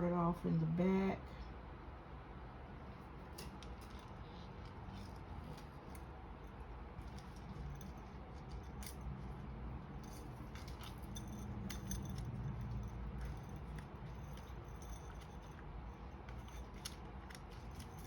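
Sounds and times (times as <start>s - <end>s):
soft handling rumble: 2.4s - 18.0s
rhinestone trim clicking and jingling: 3.3s - 18.0s.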